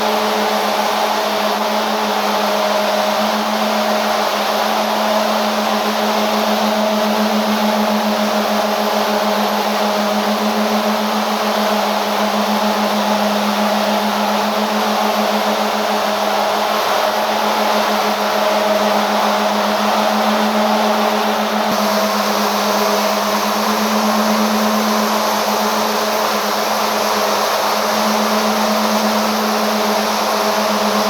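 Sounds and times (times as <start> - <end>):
yarn twisting machine whirring: 0.0 - 31.0.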